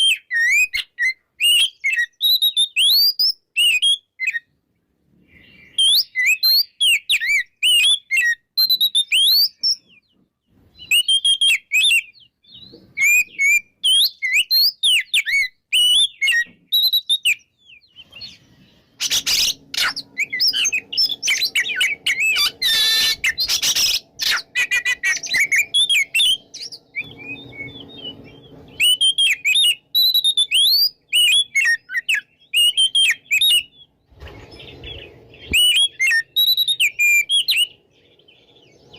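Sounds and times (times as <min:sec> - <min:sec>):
bird singing whistled phrases: 0:00.0 - 0:04.5, 0:05.3 - 0:10.0, 0:10.8 - 0:18.4, 0:19.0 - 0:38.9.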